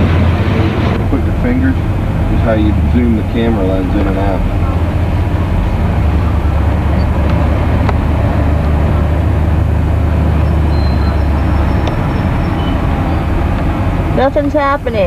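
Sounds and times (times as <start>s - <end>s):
car engine low rumble: 0.0s - 15.0s
road noise inside car: 0.0s - 15.0s.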